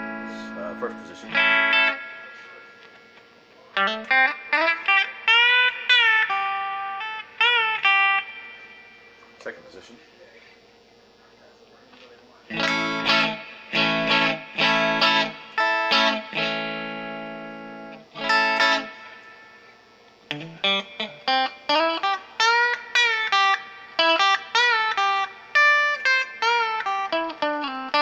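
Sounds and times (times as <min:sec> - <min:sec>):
electric guitar playing: 0:00.0 - 0:09.9, 0:12.0 - 0:28.0.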